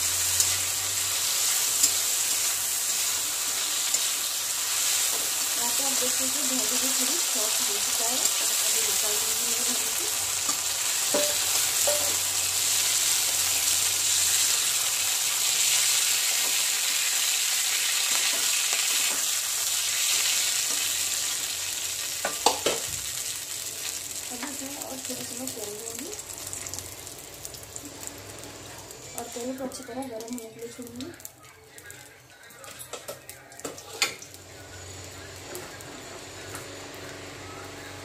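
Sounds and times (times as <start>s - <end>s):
okra sizzling in oil: 0.0s - 32.6s, 33.6s - 37.8s.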